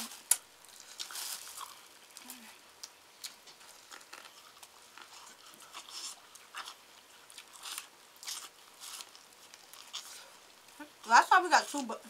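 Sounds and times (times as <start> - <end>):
people chewing corn on the cob: 0.0 - 12.0.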